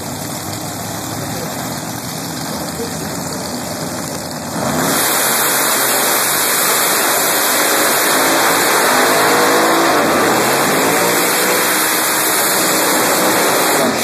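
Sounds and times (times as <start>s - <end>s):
drag racing engines revving: 0.0s - 14.0s.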